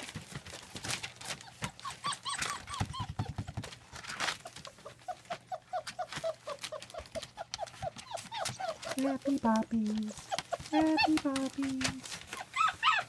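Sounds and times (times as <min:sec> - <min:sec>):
puppies whimpering: 0:00.8 - 0:13.0.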